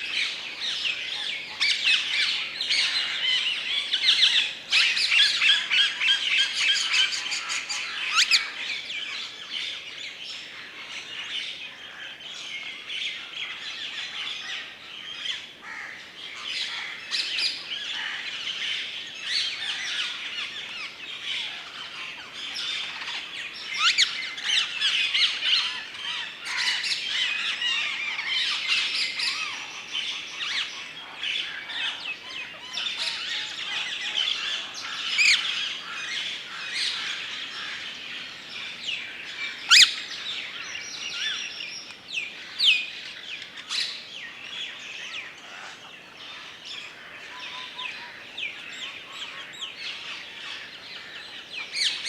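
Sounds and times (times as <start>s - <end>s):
birds chirping: 0.0s - 10.0s, 19.0s - 52.0s.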